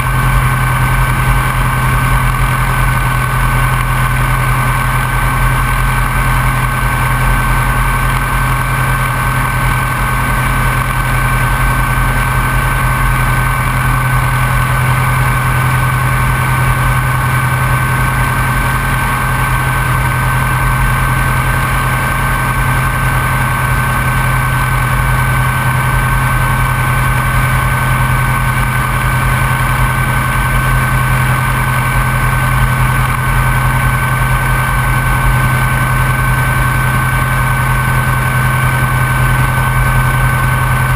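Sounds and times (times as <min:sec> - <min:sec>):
piston engine idling drone: 0:00.0 - 0:40.9
thin steady whine: 0:00.0 - 0:40.9.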